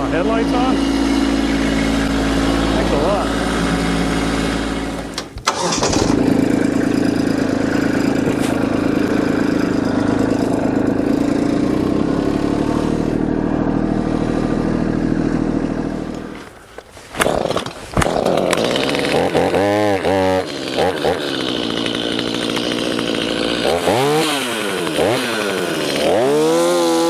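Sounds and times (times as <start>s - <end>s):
tractor diesel engine running: 0.0s - 26.8s.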